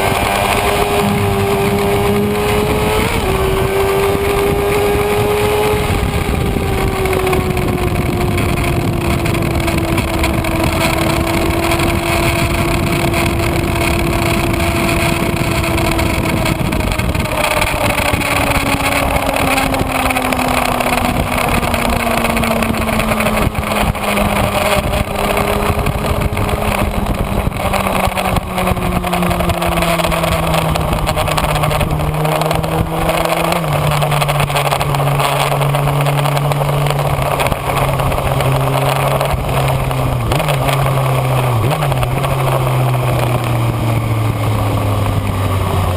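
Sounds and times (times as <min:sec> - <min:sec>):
motorcycle engine: 0:00.0 - 0:45.9
wind noise: 0:00.0 - 0:45.9.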